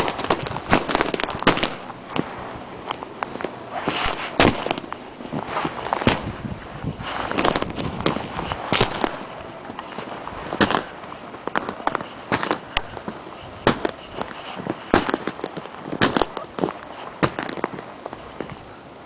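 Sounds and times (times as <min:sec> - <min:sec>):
footsteps crunching in snow: 0:00.0 - 0:18.7.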